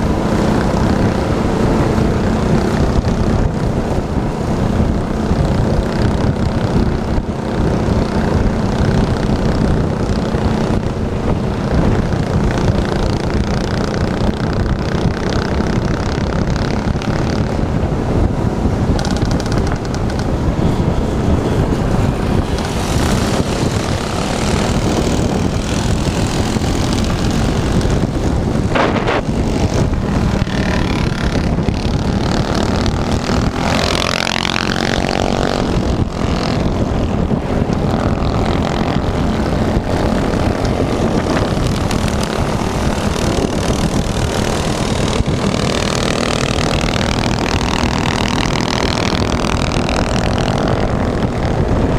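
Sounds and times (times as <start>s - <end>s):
small engine running: 0.0s - 18.3s, 18.9s - 51.7s.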